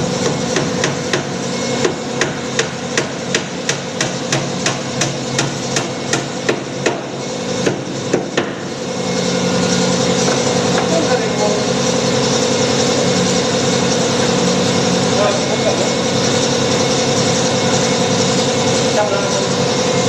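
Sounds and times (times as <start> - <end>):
engine-like hum: 0.0 - 20.0.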